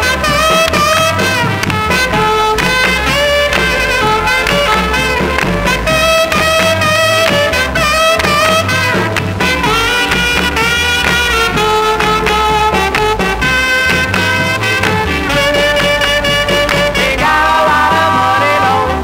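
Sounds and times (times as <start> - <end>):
held horn notes: 0.0 - 19.0
rhythm section beat: 0.0 - 19.0.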